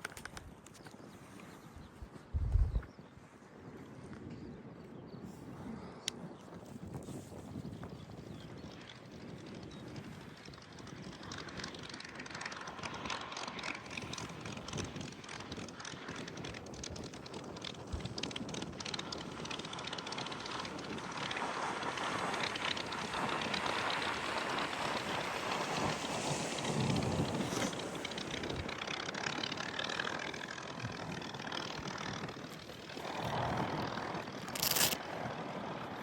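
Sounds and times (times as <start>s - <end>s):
aircraft engine drone: 5.7s - 36.0s.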